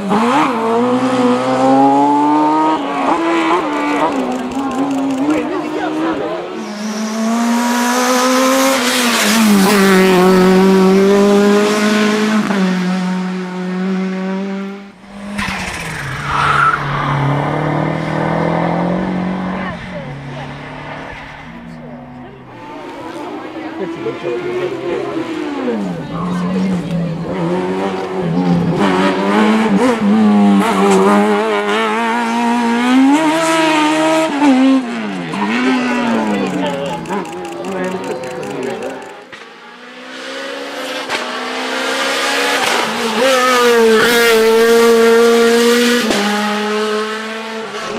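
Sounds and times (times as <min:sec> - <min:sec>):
lower pitched car engine: 0:00.0 - 0:47.9
race car engine revving high: 0:00.0 - 0:47.9.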